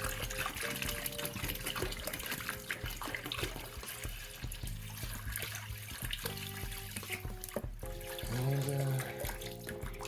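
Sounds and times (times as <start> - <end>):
liquid sloshing and splashing: 0.0 - 10.0
water dripping: 0.0 - 10.0.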